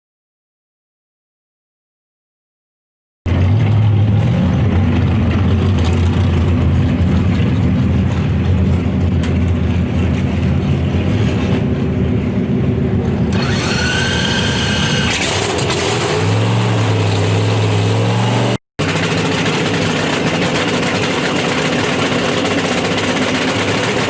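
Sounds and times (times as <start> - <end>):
high engine whine: 3.3 - 24.0
racing engine running: 3.3 - 24.0.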